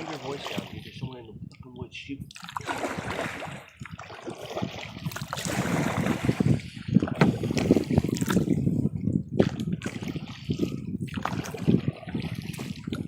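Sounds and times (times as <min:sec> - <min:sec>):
water sloshing: 0:00.0 - 0:13.0
wind buffeting microphone: 0:00.0 - 0:13.0.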